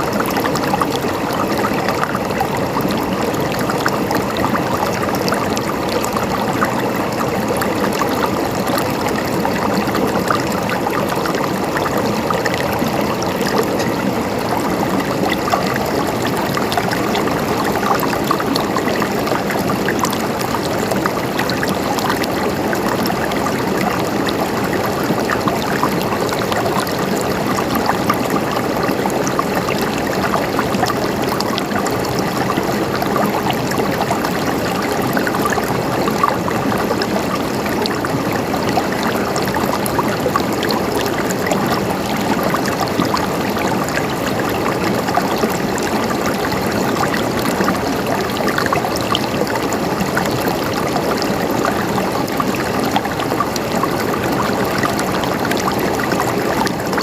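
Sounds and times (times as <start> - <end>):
stream babbling and gurgling: 0.0 - 57.0.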